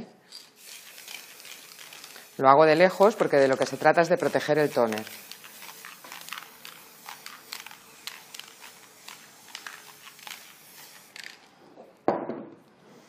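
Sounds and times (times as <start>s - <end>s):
aerosol spray hissing: 0.2s - 11.6s.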